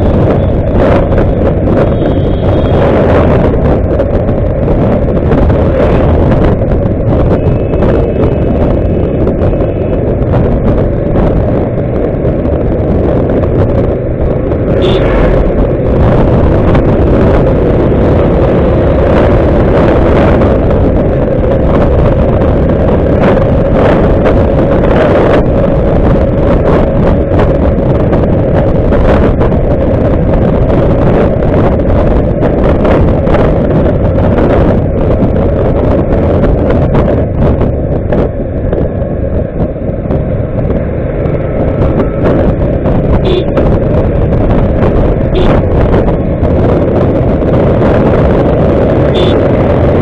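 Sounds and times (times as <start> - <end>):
motorcycle engine drone: 0.0 - 50.0
wind buffeting microphone: 0.0 - 50.0.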